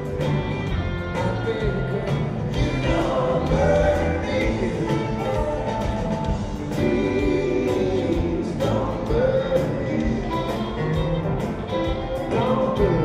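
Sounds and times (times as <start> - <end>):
drums: 0.0 - 13.0
electric guitars: 0.0 - 13.0
person singing: 0.0 - 13.0.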